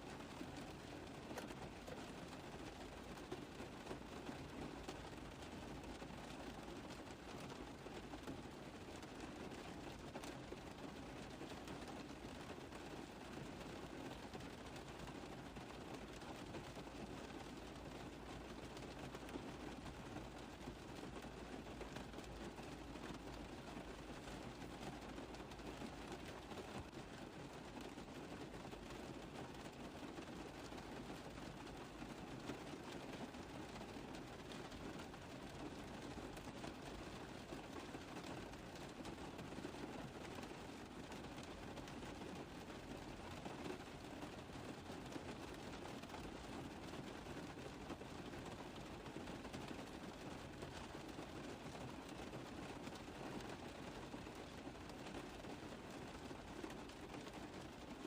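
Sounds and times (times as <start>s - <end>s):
rain on a car roof: 0.0s - 58.0s.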